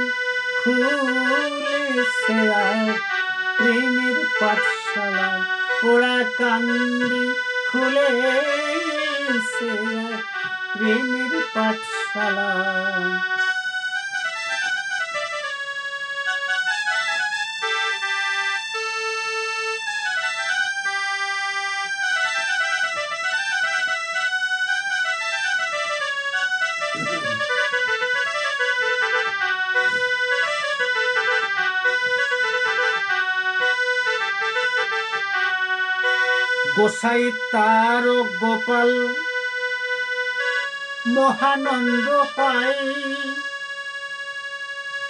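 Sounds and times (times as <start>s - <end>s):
electronic keyboard melody: 0.0s - 45.0s.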